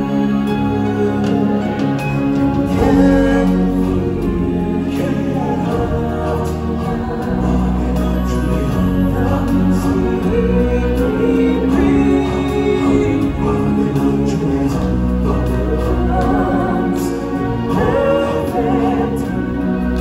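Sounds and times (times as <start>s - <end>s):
choir singing: 0.0s - 20.0s
solo singers: 0.0s - 20.0s.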